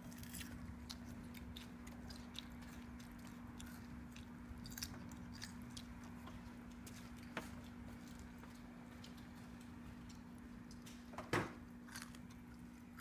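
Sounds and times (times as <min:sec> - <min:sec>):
child chewing food: 0:00.0 - 0:13.0.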